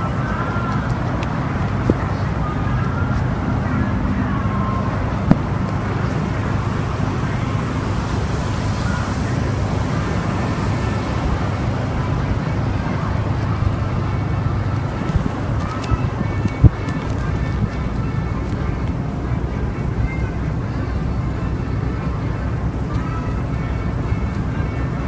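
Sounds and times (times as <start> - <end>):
car engine and exhaust: 0.0 - 25.0
road and wind noise: 0.0 - 25.0.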